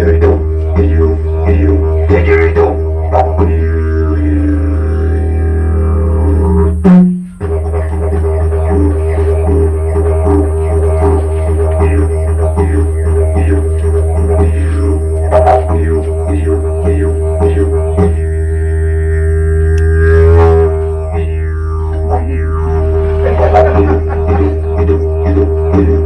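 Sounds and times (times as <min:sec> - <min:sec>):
didgeridoo drone: 0:00.0 - 0:26.0.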